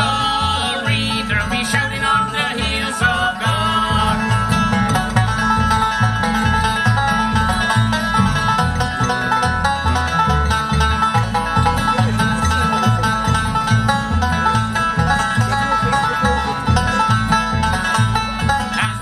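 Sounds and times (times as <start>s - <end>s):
acoustic guitar: 0.0s - 19.0s
banjo picking: 0.0s - 19.0s
fiddle: 0.0s - 19.0s
upright bass: 0.0s - 19.0s.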